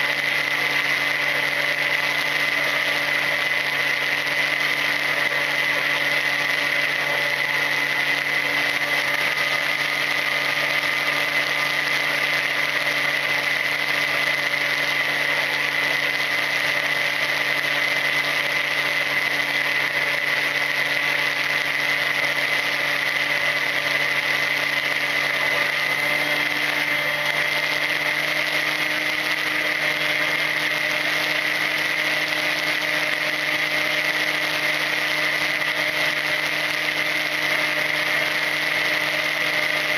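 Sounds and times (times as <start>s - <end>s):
electric motor and propeller whining: 0.0s - 39.9s.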